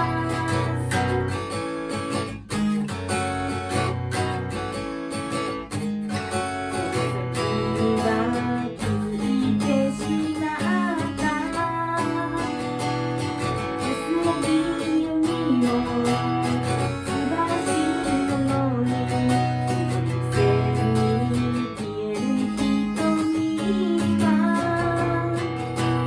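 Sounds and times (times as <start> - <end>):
guitar strummed and picked: 0.0 - 26.0.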